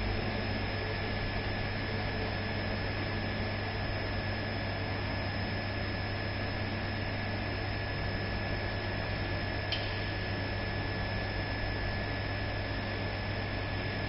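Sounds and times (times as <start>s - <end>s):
induction heater humming and whining: 0.0s - 14.0s.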